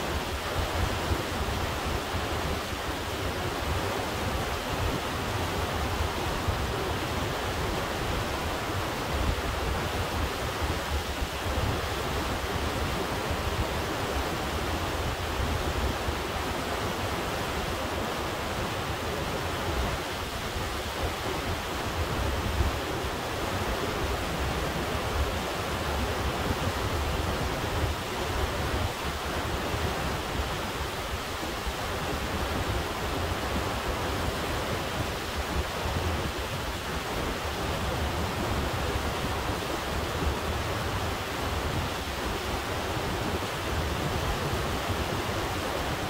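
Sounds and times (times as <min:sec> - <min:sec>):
river rushing over rocks: 0:00.0 - 0:46.0.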